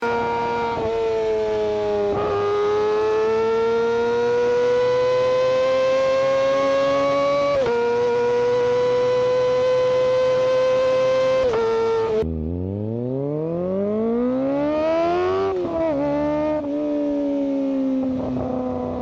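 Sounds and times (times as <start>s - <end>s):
motorcycle engine high-revving howl: 0.0s - 19.0s.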